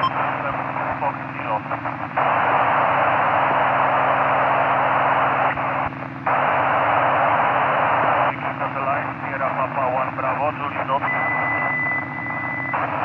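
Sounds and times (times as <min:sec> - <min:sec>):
radio static hissing: 0:00.0 - 0:11.1, 0:12.7 - 0:13.0.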